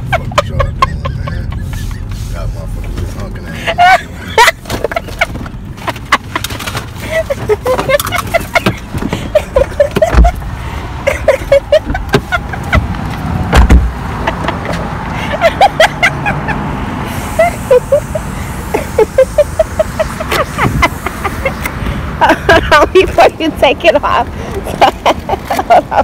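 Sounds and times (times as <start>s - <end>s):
car road noise: 0.0s - 26.0s.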